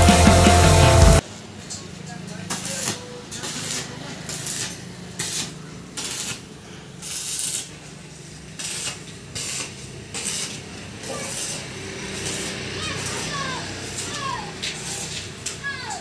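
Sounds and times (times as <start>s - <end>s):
arc welding crackle: 2.4s - 16.0s.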